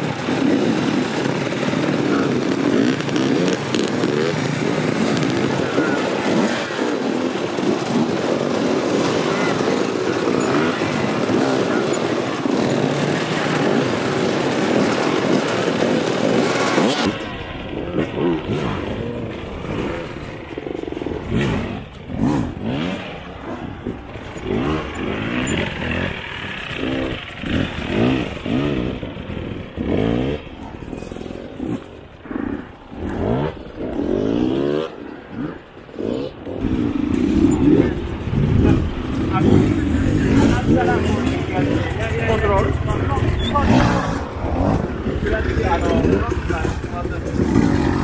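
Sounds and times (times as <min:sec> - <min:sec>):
dense steady noise: 0:00.0 - 0:48.0
dirt bike engine revving: 0:00.0 - 0:48.0.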